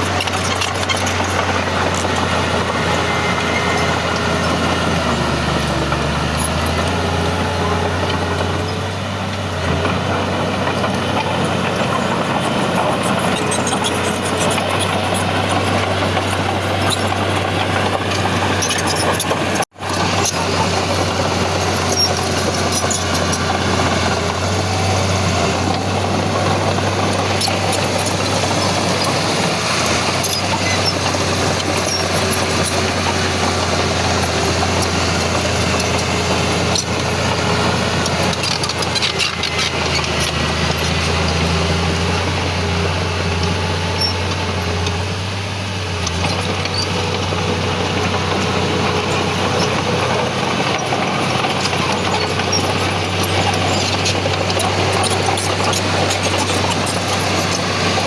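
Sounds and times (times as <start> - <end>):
heavy diesel machinery droning: 0.0 - 58.0.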